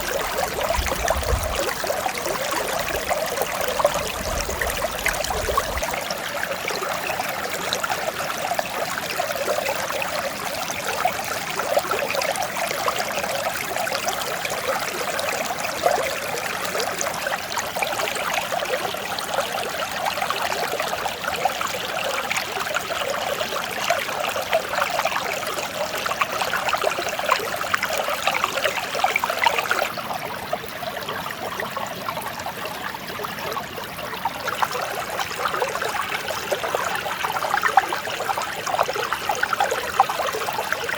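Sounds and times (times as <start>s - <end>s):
stream splashing over rocks: 0.0s - 40.9s.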